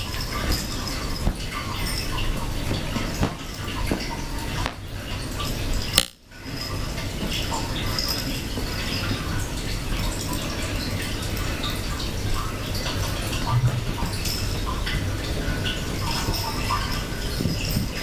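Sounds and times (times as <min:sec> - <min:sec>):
dishes clinking: 0:00.0 - 0:18.0
water running: 0:00.0 - 0:18.0.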